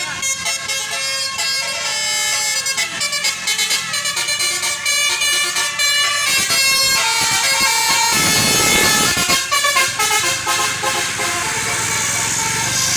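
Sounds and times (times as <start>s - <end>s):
multi-tone bus horn melody: 0.0s - 12.9s.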